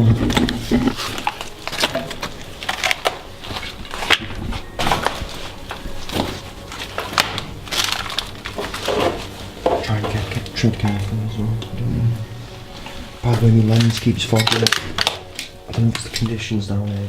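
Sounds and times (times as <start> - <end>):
footsteps crunching over debris: 0.0 - 17.0.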